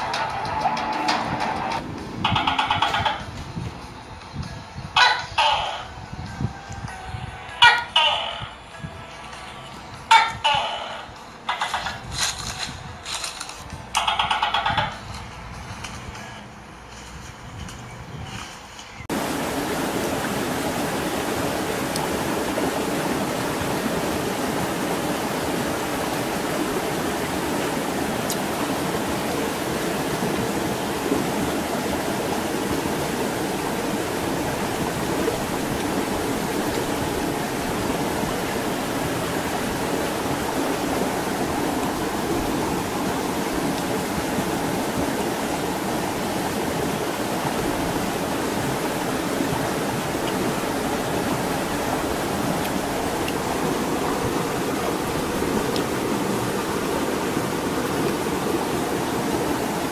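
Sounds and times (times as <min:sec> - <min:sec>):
stream water rushing: 0:00.0 - 0:17.3, 0:19.0 - 0:59.9.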